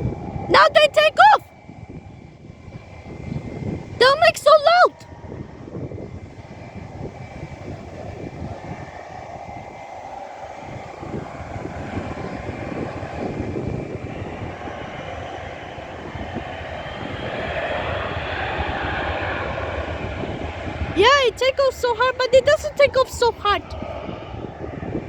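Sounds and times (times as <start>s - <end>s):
jet plane taking off: 0.0s - 25.0s.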